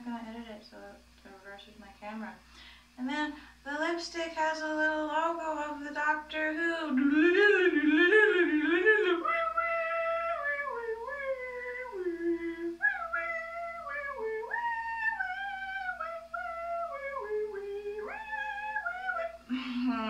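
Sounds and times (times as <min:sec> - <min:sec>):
woman singing wordless notes: 0:03.0 - 0:20.0.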